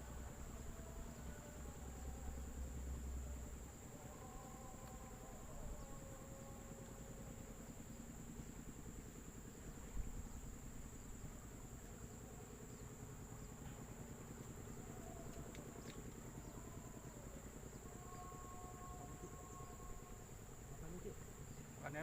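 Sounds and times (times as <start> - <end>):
insect chorus trilling: 0.0 - 22.0
low rapid pulsing hum: 0.0 - 22.0.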